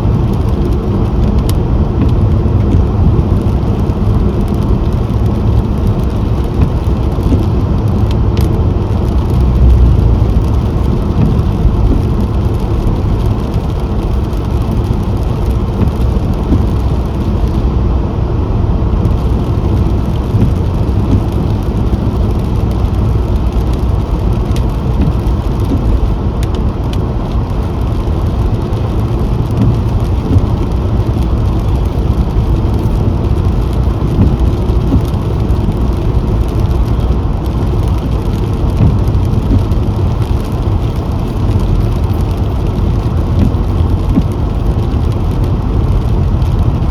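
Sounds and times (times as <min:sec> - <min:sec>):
car engine and tyre road noise: 0:00.0 - 0:46.9.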